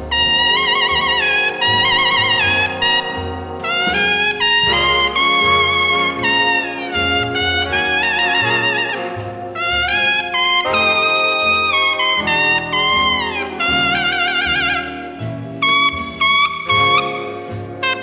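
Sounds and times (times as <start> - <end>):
lead trumpet melody: 0.0 - 18.0
saxophones: 0.0 - 18.0
trombone: 0.0 - 18.0
walking bass: 0.0 - 18.0.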